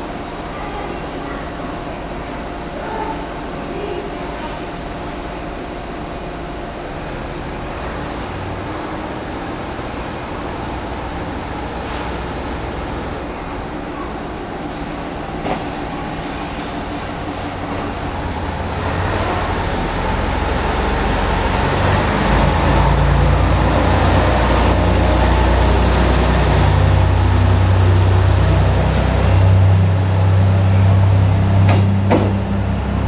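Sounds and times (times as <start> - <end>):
diesel railcar engine droning: 0.0 - 33.0.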